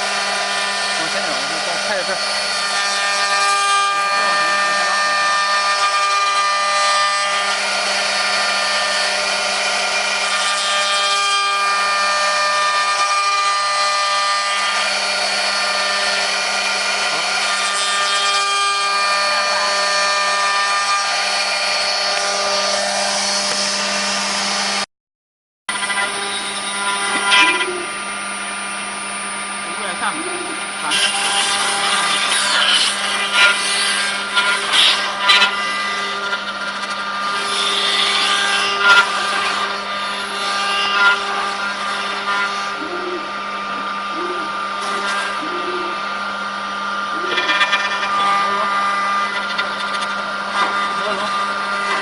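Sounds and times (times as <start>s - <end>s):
wood router spindles whining: 0.0s - 24.9s, 25.7s - 52.0s.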